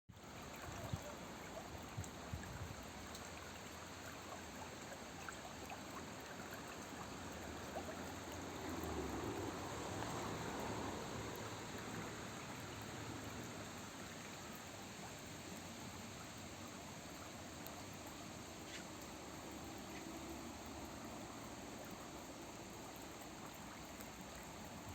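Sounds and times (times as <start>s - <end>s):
small stream trickling: 0.1s - 24.9s.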